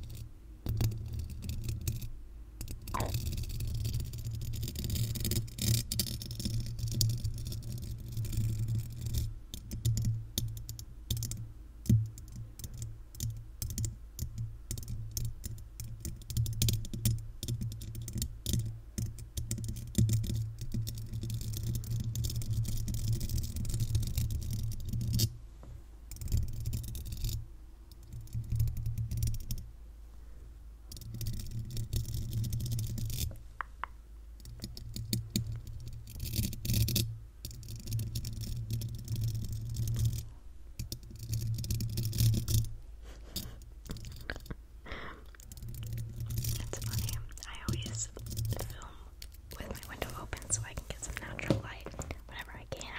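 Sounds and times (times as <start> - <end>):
nails tapping on microphone grille: 0.0 - 29.7, 30.9 - 44.6, 45.3 - 52.9.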